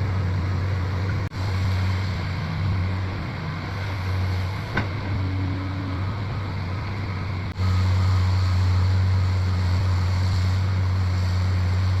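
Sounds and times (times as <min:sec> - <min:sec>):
excavator engine droning: 0:00.0 - 0:12.0.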